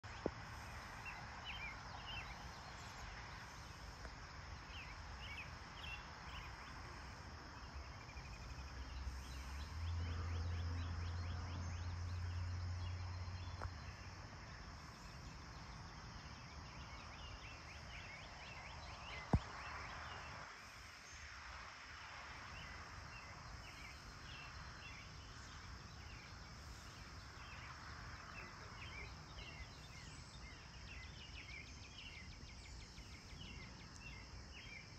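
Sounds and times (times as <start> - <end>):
birds chirping: 0.0 - 20.3, 22.5 - 34.9
high insect drone: 0.1 - 34.9.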